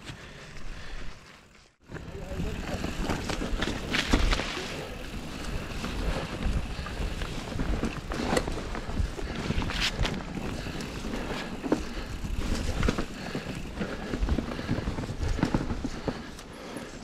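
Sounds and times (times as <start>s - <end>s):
bike tyres rolling on trail: 0.0s - 17.0s
bike knocks and rattles: 1.8s - 16.4s.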